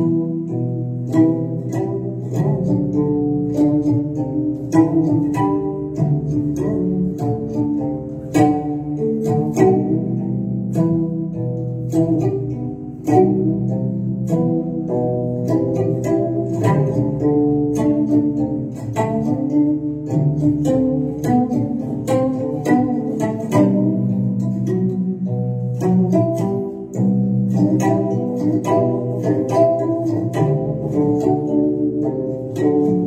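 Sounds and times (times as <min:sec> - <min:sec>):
plucked string music: 0:00.0 - 0:33.0.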